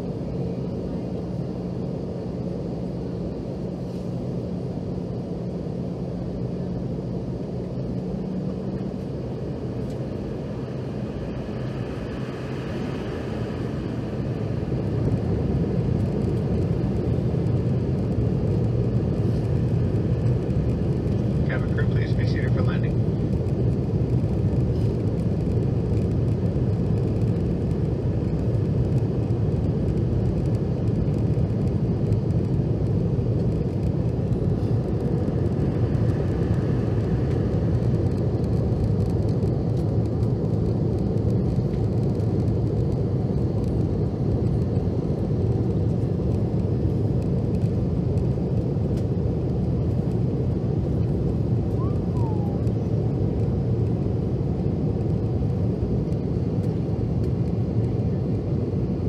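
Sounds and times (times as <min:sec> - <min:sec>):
airflow over fuselage: 0:00.0 - 0:59.0
airliner cabin engine rumble: 0:00.0 - 0:59.0.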